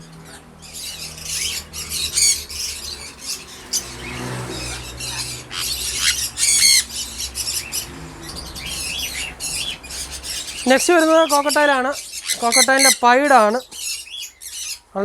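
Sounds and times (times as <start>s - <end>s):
parrots squawking and chirping: 0.0s - 15.0s.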